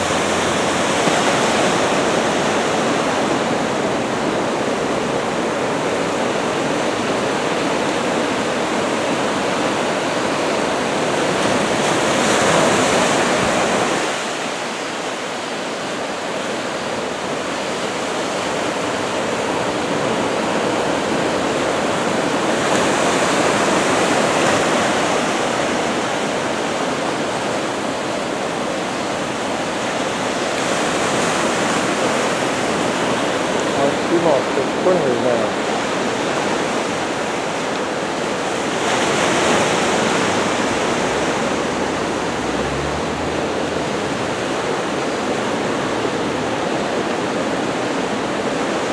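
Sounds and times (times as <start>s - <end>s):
ocean surf breaking: 0.0s - 48.9s.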